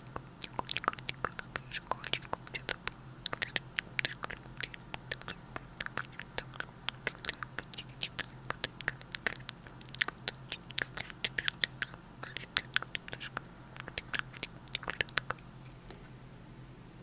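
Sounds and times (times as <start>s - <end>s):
tongue clicks: 0.0s - 16.0s.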